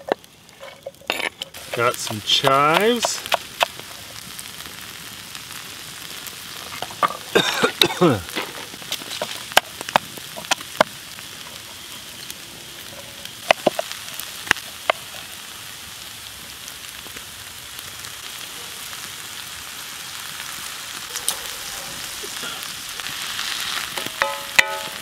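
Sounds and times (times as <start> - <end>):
food sizzling in a skillet: 0.0 - 25.0.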